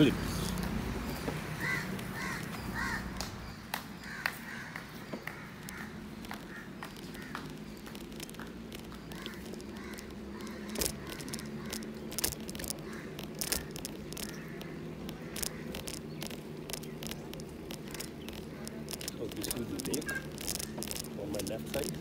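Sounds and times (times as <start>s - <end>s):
bicycle rolling hum: 0.0s - 22.0s.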